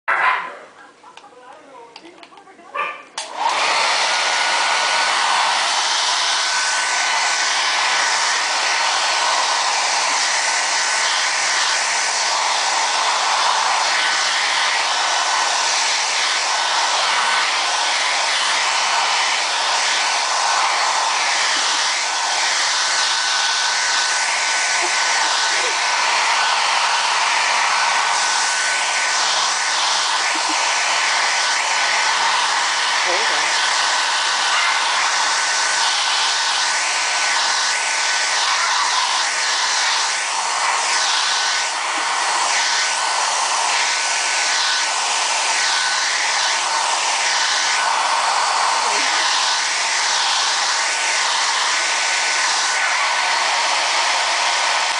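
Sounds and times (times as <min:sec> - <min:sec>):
blow dryer blowing: 0:03.1 - 0:54.9.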